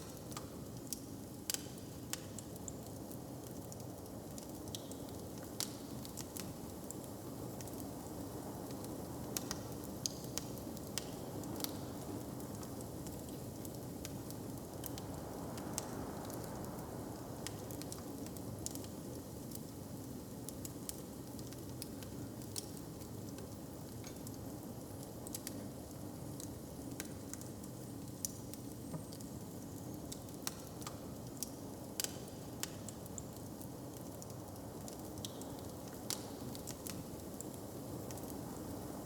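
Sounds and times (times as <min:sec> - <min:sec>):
wood fire crackling: 0:00.1 - 0:16.8, 0:17.4 - 0:39.0.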